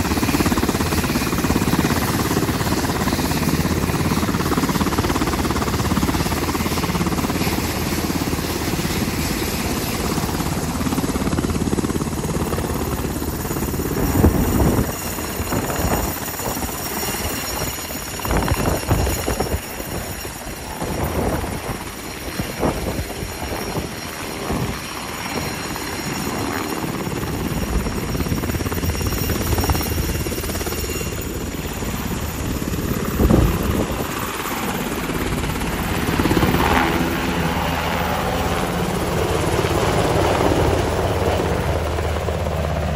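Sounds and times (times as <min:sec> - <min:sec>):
helicopter engines and rotor: 0:00.0 - 0:42.9.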